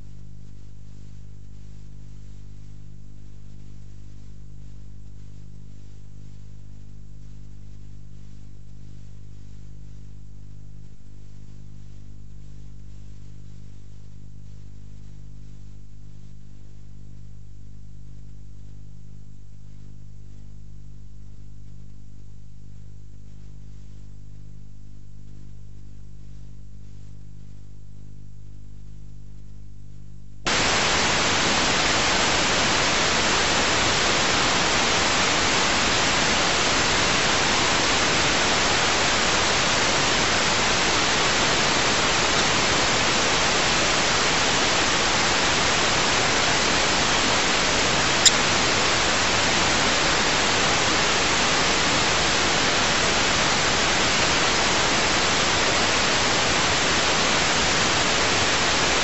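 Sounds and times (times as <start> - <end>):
faint low hum: 0.0 - 59.0
static hiss: 0.0 - 59.0.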